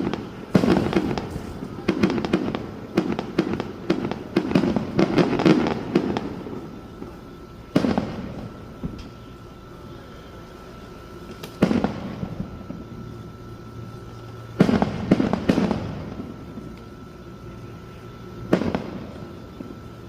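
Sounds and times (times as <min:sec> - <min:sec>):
fireworks bursting: 0:00.0 - 0:20.0
rolling echo: 0:00.0 - 0:20.0.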